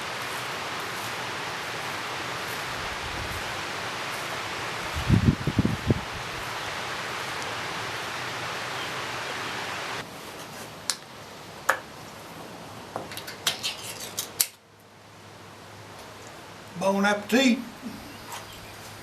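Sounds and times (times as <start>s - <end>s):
wind rustling trees: 0.0s - 19.0s.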